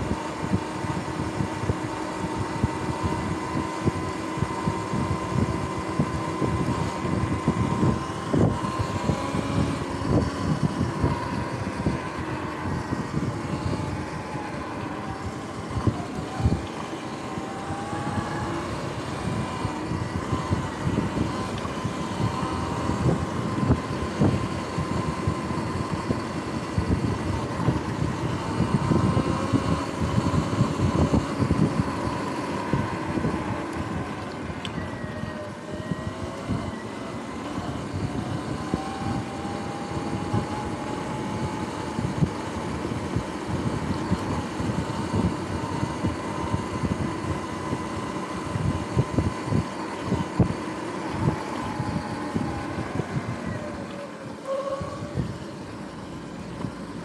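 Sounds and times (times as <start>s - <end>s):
electric motor whine: 0.0s - 57.0s
road noise: 0.0s - 57.0s
rushing gusting wind: 0.0s - 57.0s.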